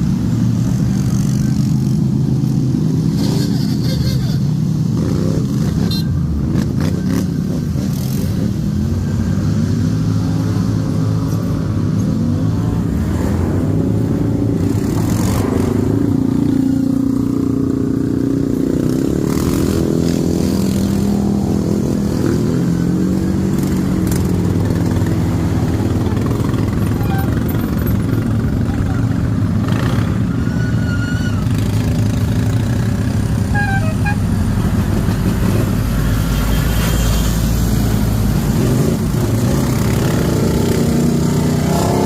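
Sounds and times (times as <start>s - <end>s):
atv engines revving: 0.0s - 42.0s.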